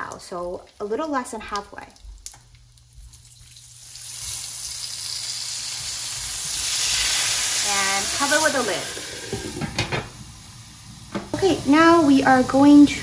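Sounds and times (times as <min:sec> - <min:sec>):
water sizzling in hot oil: 0:00.0 - 0:13.0.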